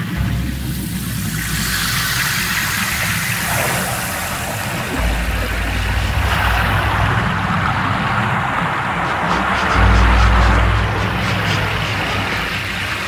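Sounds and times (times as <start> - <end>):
deep rumbling drone: 0.0 - 13.0
steady hiss: 0.0 - 13.0.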